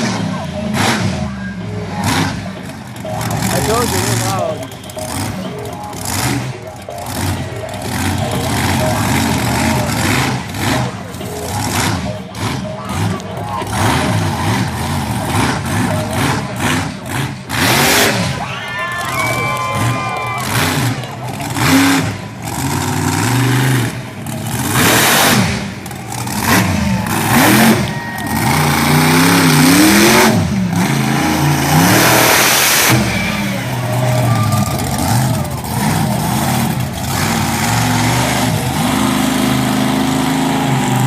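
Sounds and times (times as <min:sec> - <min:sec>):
monster truck engine revving: 0:00.0 - 0:41.0.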